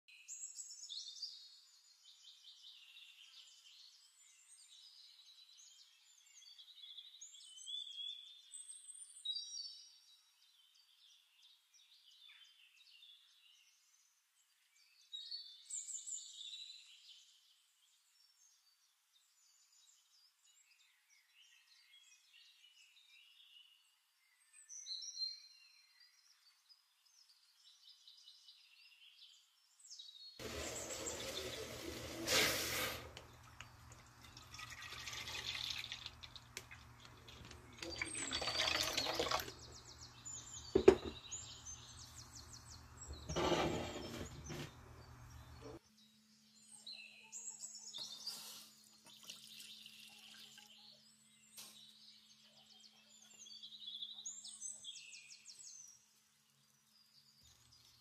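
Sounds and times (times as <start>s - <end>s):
birdsong: 0.1s - 58.0s.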